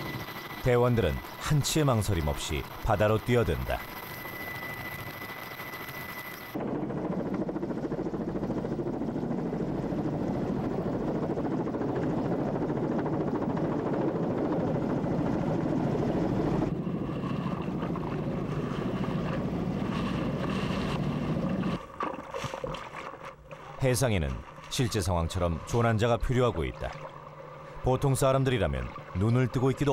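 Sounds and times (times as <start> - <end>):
helicopter hovering: 0.0 - 21.9, 23.6 - 29.9.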